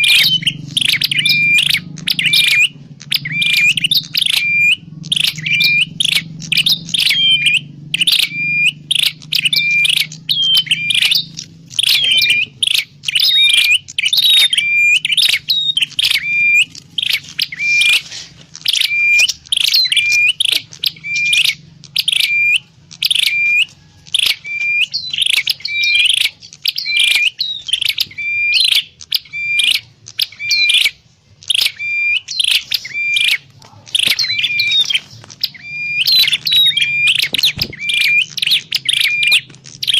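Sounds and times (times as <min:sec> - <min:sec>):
bird chirping: 0:00.0 - 0:39.9
faint low hum: 0:00.0 - 0:39.9.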